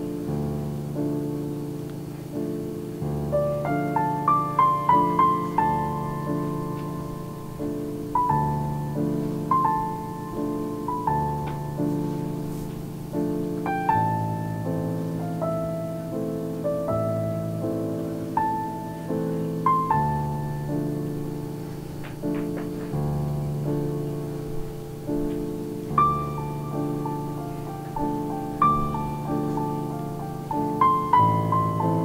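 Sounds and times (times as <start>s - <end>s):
slow piano melody: 0.0s - 32.0s.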